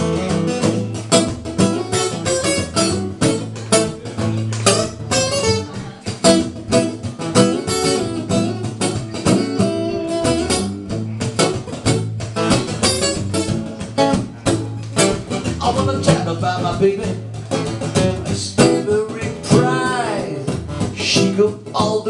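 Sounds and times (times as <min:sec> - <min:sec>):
acoustic guitars playing: 0:00.0 - 0:22.0.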